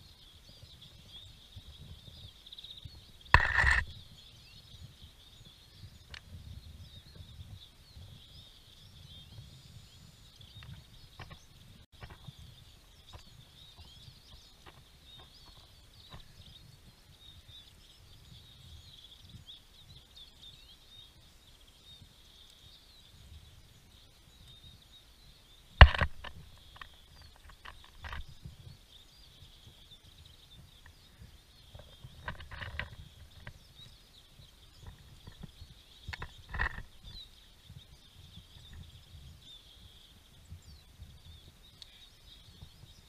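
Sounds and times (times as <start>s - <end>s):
songbirds chirping and twittering: 0.0s - 43.0s.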